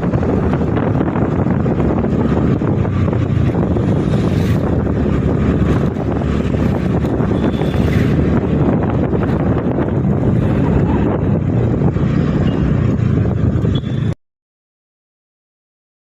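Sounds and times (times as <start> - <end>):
wind buffeting microphone: 0.0 - 14.1
road and engine noise: 0.0 - 14.2.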